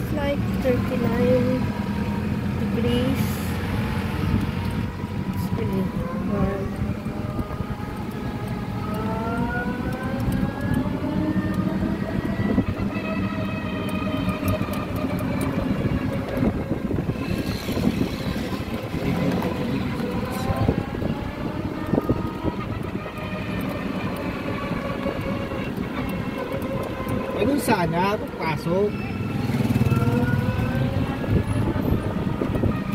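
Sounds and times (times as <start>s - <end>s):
road noise: 0.0s - 32.9s
electric motor whining: 0.5s - 32.9s.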